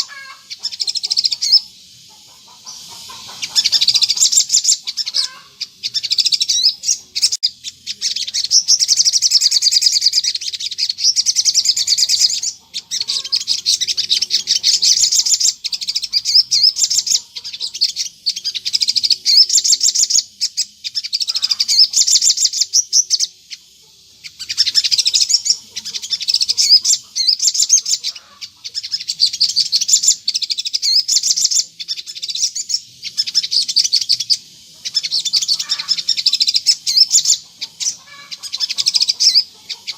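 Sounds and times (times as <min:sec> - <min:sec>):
sunbird high-pitched chattering song: 0:00.0 - 0:39.9.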